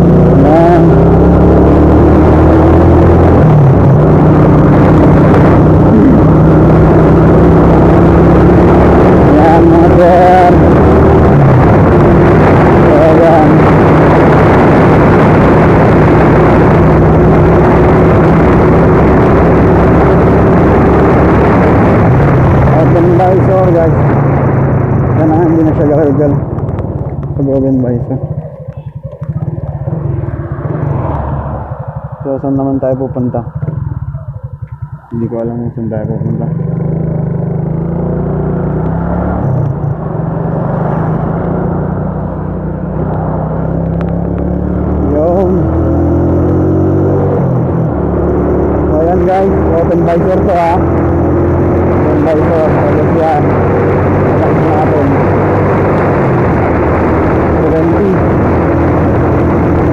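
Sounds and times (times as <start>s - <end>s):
motorcycle engine hum: 0.0s - 59.9s
wind rushing over microphone: 0.0s - 59.9s.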